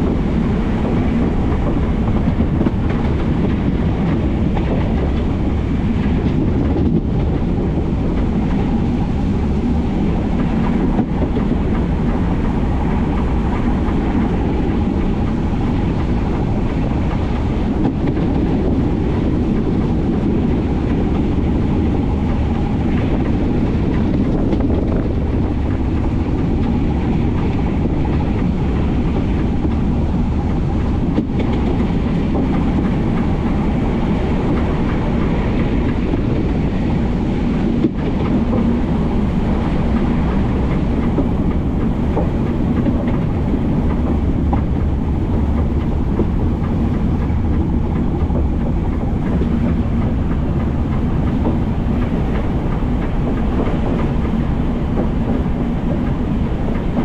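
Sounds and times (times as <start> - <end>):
faint track knocks: 0.0 - 57.0
train wheels rumbling on rail: 0.0 - 57.0.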